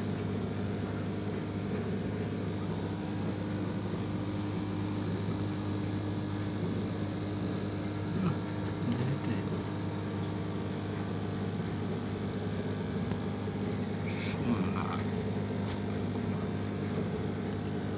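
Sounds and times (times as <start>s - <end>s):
aquarium pump humming: 0.0s - 17.9s.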